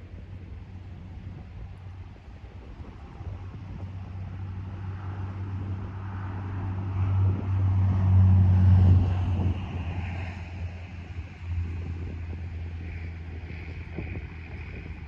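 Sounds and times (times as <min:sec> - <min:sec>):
engine passing by: 0:00.0 - 0:15.0.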